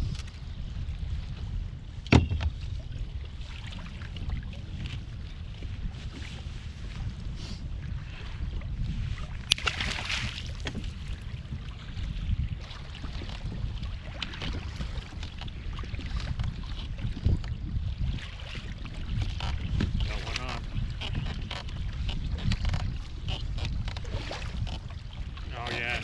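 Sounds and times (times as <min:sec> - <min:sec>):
water lapping against kayak hull: 0:00.0 - 0:26.0
wind buffeting microphone: 0:00.0 - 0:26.0.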